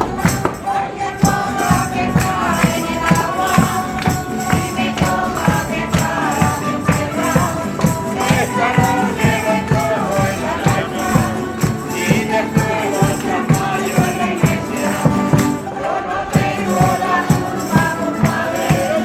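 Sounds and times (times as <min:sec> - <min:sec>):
voices singing together: 0:00.0 - 0:19.0.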